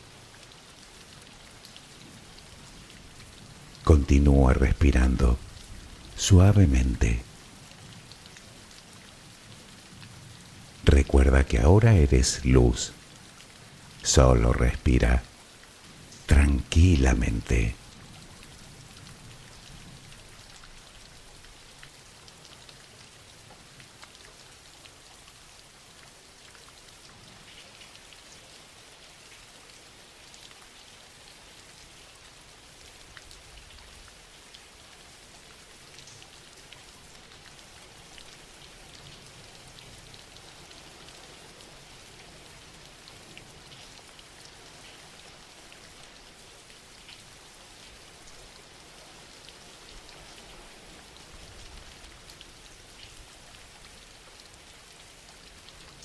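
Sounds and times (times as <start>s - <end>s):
soft steady rain: 0.0s - 56.0s.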